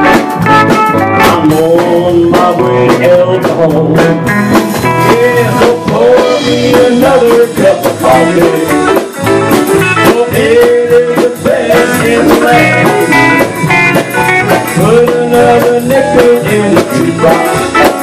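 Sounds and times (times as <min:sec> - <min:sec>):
country band playing: 0:00.0 - 0:18.0
drum beat: 0:00.0 - 0:18.0
lead guitar bending notes: 0:00.0 - 0:18.0.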